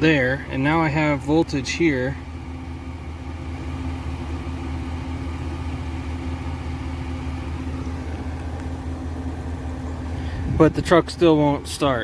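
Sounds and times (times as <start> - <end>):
steady engine-like hum: 0.0 - 12.0.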